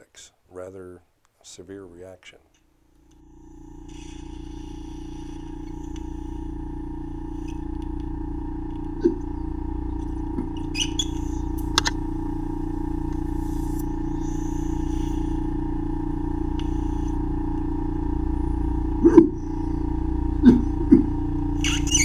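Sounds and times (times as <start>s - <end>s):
suction machine humming: 3.0s - 22.0s.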